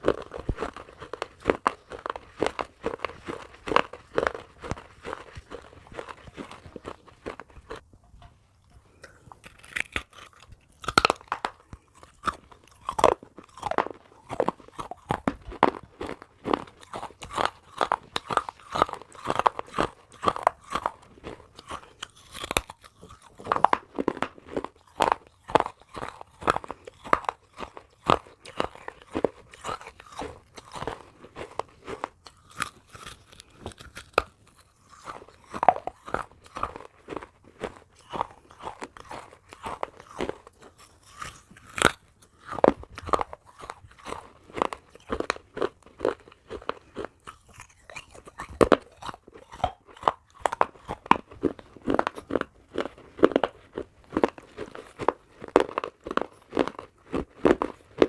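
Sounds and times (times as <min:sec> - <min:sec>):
clay crunching between teeth: 0:00.0 - 0:07.9, 0:08.6 - 0:58.0.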